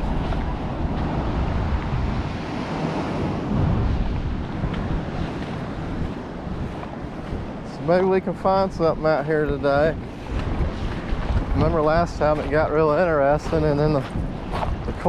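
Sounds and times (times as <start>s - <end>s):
ocean surf: 0.0s - 15.0s
wind buffeting microphone: 0.0s - 15.0s.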